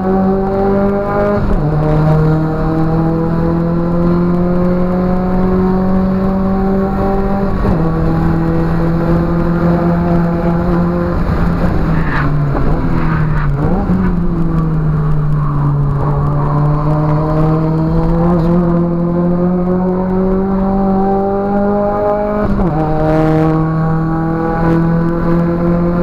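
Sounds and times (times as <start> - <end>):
turbocharged car engine revving: 0.0 - 26.0.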